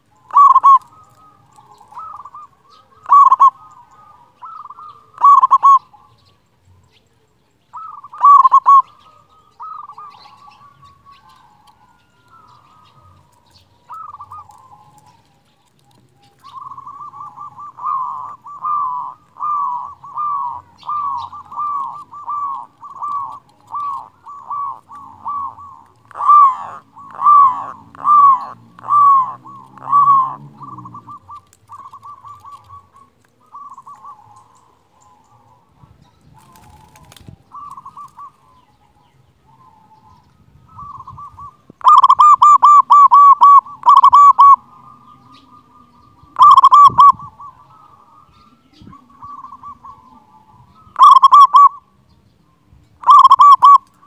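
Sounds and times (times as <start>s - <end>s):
dove cooing: 0.0s - 52.1s, 53.0s - 54.0s.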